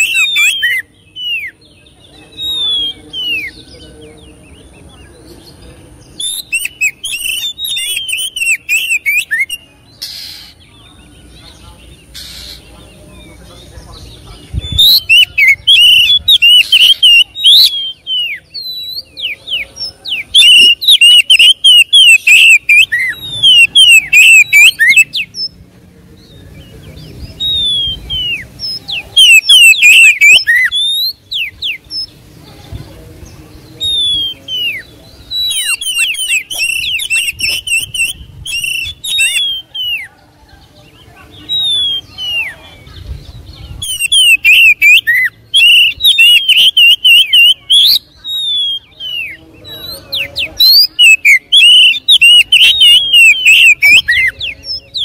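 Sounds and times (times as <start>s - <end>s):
bird singing whistled phrases: 0.0s - 3.8s, 6.1s - 10.6s, 14.6s - 25.6s, 26.2s - 32.1s, 33.6s - 40.1s, 41.3s - 42.8s, 43.8s - 55.0s.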